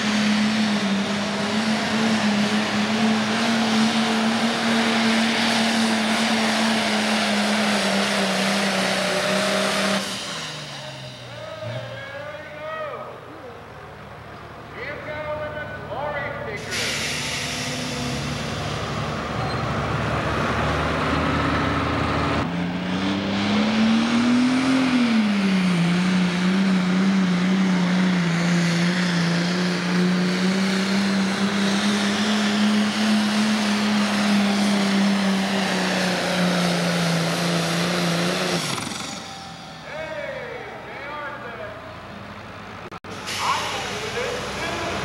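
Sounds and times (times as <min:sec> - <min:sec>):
diesel tractor engine at full throttle: 0:00.0 - 0:45.0.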